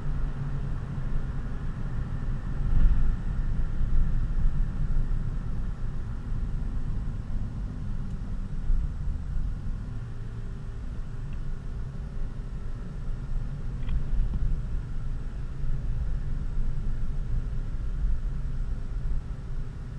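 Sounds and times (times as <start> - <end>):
car engine and road rumble: 0.0 - 19.9.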